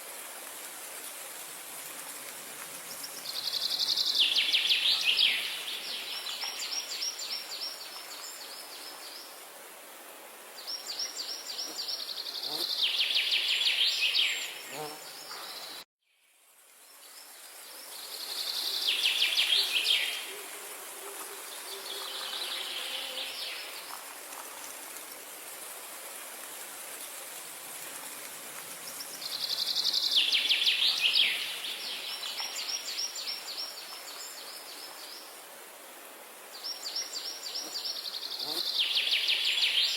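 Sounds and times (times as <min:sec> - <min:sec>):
steady outdoor hiss: 0:00.0 - 0:39.9.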